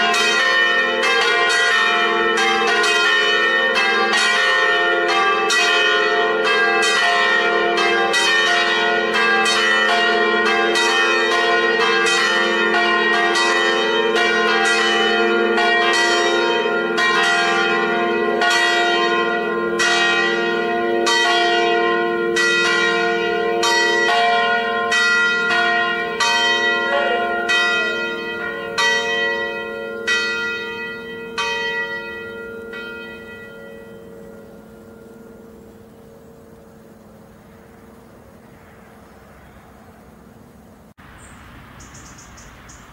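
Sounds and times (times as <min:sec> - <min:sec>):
bells humming: 0:00.0 - 0:38.6
church bells ringing a peal: 0:00.0 - 0:40.3.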